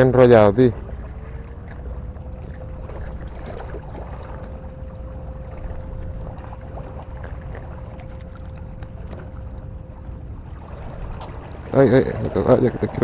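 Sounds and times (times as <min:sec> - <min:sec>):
motorboat engine humming: 0:00.0 - 0:13.0
wind rumbling on microphone: 0:00.0 - 0:13.0.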